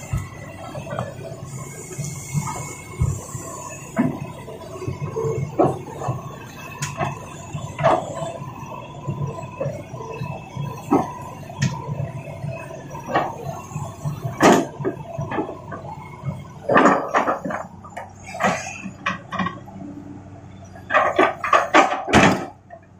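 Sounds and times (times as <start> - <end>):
low motor hum: 0.0 - 22.9.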